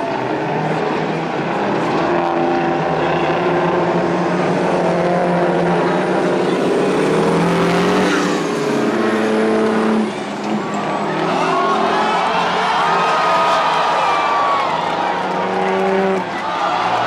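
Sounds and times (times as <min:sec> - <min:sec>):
truck engines racing: 0:00.0 - 0:17.0.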